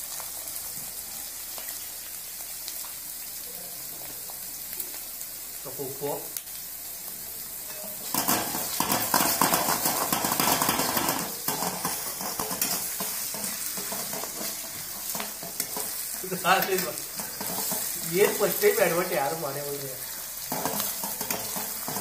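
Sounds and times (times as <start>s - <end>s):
vegetables sizzling in a wok: 0.0s - 22.0s.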